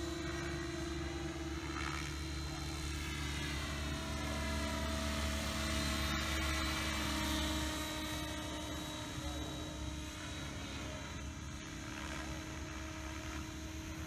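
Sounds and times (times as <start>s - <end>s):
rc helicopter motor and rotors: 0.0s - 14.0s.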